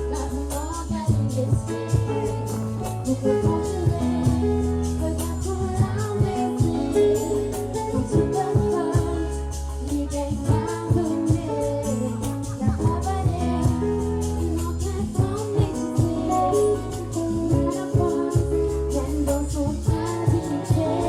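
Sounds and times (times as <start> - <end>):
band with strong bass: 0.0 - 21.0
woman singing: 0.0 - 21.0.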